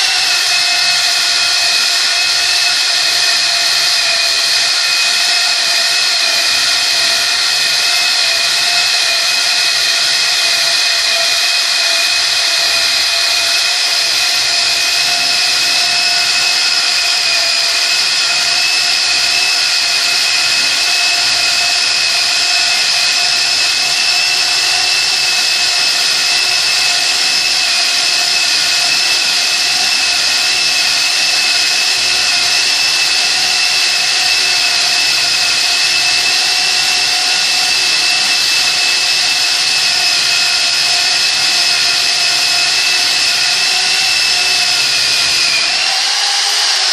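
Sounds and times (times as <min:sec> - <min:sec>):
rotary hammer drilling into wall: 0:00.0 - 0:46.9.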